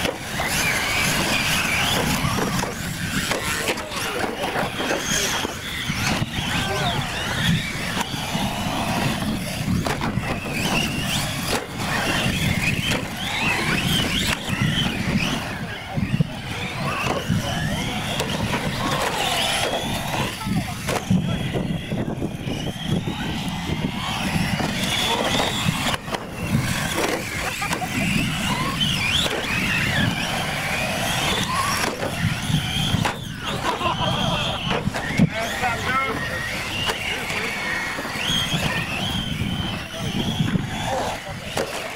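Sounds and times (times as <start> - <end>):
toy truck motors whining: 0.0 - 41.9
tyres rumbling on gravel: 0.0 - 41.9.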